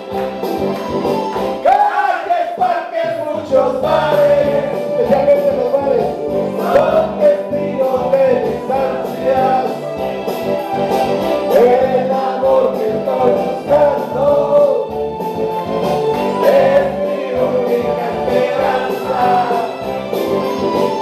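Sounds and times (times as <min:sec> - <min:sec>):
group of people singing: 0:01.6 - 0:14.9, 0:16.0 - 0:21.0.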